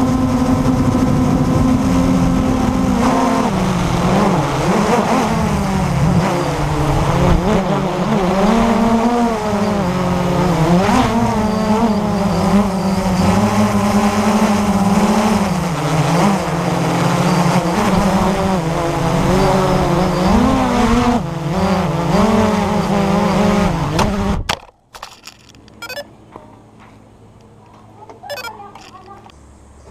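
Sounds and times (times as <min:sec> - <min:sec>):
quadcopter motors buzzing: 0:00.0 - 0:24.4, 0:25.2 - 0:26.1, 0:28.3 - 0:29.4.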